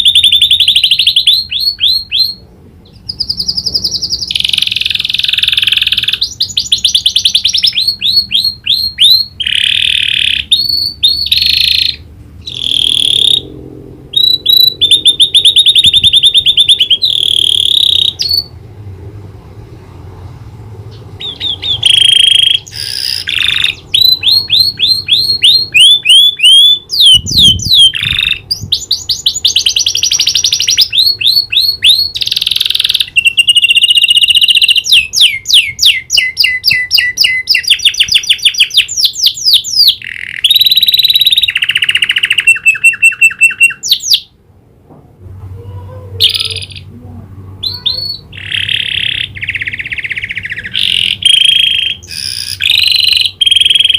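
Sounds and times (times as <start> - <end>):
canary singing: 0.0 - 18.8, 20.8 - 44.4, 45.6 - 53.9.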